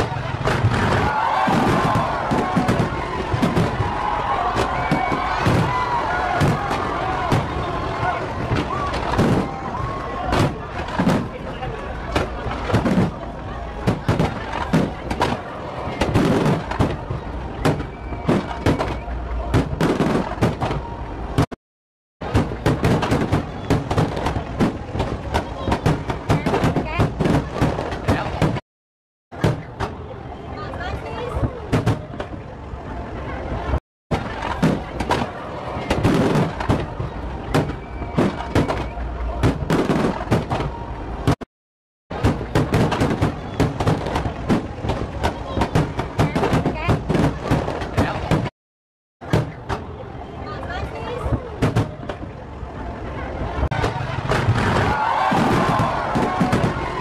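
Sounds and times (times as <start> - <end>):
fireworks bangs: 0.0 - 21.6, 22.2 - 28.6, 29.4 - 30.0, 31.2 - 32.5, 34.1 - 41.5, 42.1 - 48.5, 49.2 - 50.0, 50.9 - 52.3, 53.6 - 57.0
low rumble of fireworks: 0.0 - 21.6, 22.2 - 28.6, 29.4 - 41.5, 42.1 - 48.5, 49.2 - 57.0.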